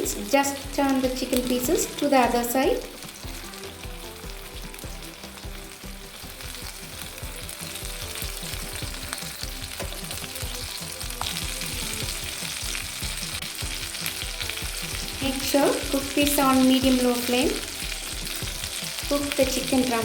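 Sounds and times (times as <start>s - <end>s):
chicken sizzling in a frying pan: 0.0s - 20.0s.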